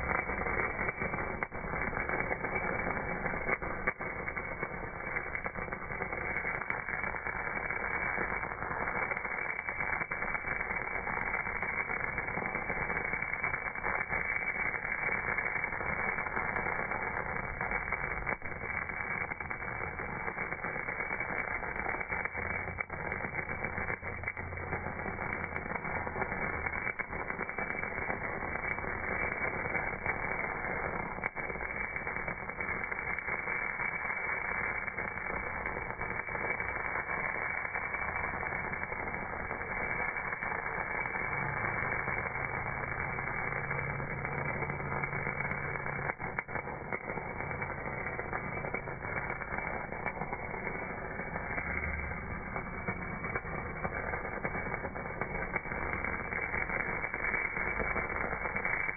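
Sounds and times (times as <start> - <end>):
welding arc crackling hiss: 0.0 - 58.9.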